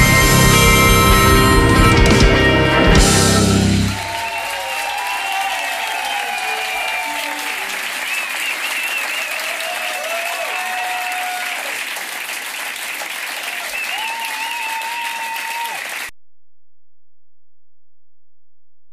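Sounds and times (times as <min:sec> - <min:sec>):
long held cheers: 0:00.0 - 0:12.2, 0:13.0 - 0:16.1
audience applauding: 0:00.0 - 0:16.1.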